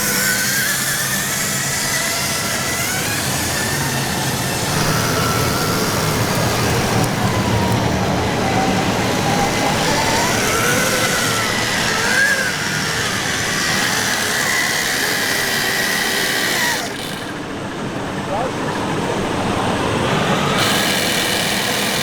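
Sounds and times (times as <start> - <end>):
motor and hydraulic pump whine: 0.0 - 22.0
steady noisy background: 0.0 - 22.0.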